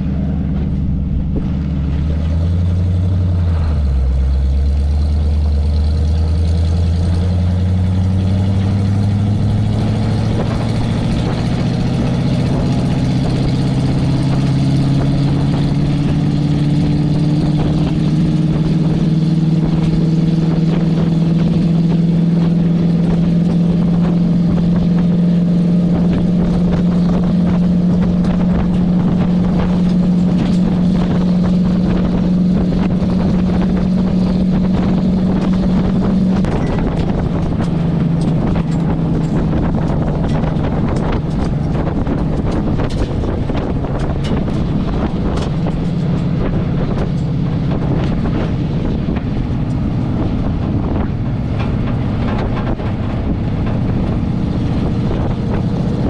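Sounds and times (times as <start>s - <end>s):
road and wind noise: 0.0s - 56.0s
truck engine accelerating: 0.0s - 56.0s.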